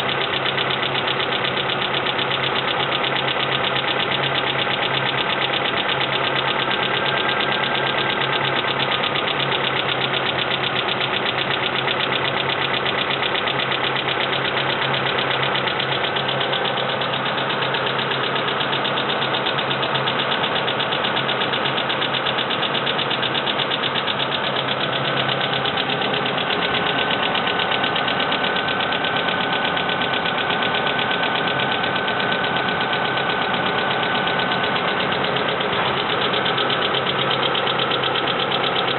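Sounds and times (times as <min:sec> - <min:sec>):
car engine running: 0:00.0 - 0:38.9
valve lifters ticking: 0:00.1 - 0:38.9.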